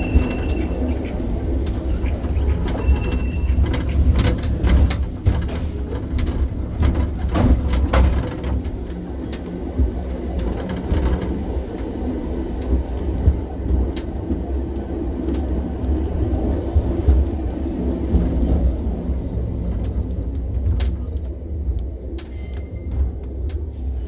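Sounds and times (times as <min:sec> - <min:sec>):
tram rumbling on track: 0:00.0 - 0:24.0.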